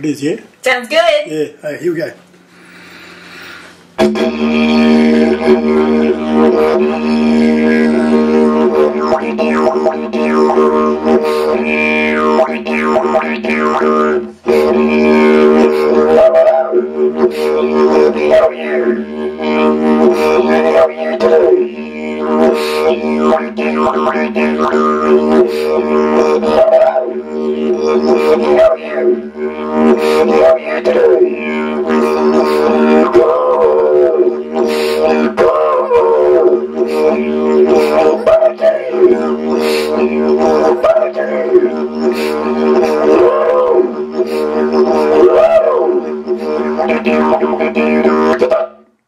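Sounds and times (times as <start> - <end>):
didgeridoo drone: 2.6 - 48.8.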